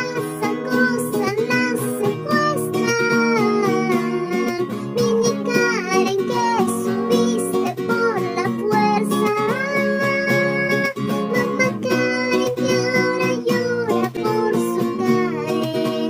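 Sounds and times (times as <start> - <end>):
person singing: 0.0 - 16.0
strummed acoustic guitar: 0.0 - 16.0.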